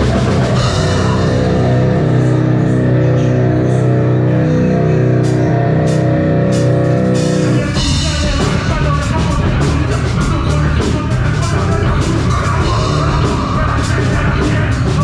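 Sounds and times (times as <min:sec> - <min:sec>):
metal band playing loud: 0:00.0 - 0:15.0.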